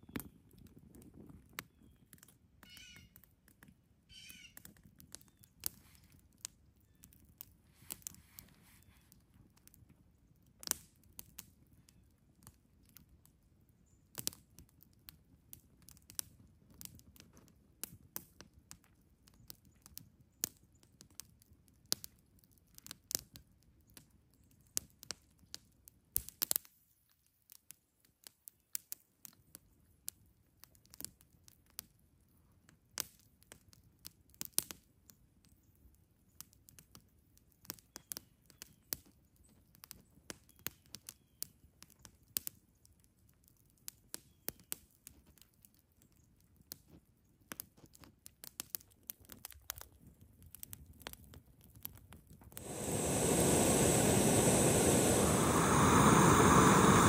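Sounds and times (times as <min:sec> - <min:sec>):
campfire crackling and popping: 0:09.1 - 0:13.3, 0:14.1 - 0:32.0, 0:32.7 - 0:57.0.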